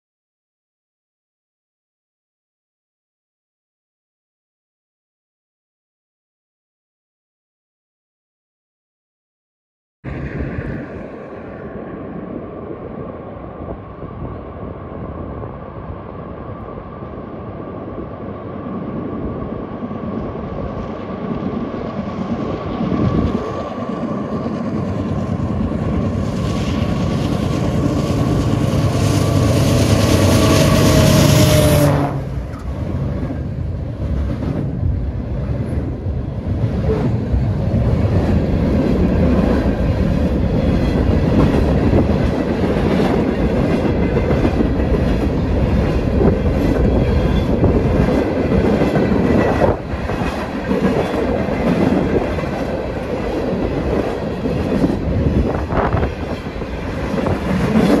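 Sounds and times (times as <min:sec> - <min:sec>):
diesel locomotive engines: 0:10.1 - 0:58.0
rail cars rumbling by: 0:10.1 - 0:58.0.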